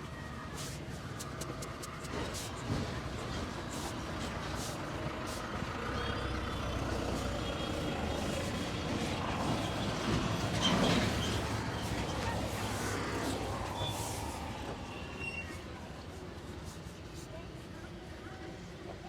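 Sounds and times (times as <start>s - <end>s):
heavy vehicle engine rumbling: 0.0s - 19.0s.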